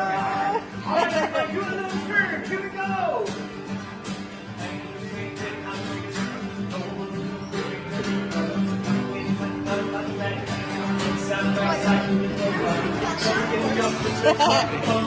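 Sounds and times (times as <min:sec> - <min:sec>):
upbeat music with acoustic guitar: 0:00.0 - 0:15.0.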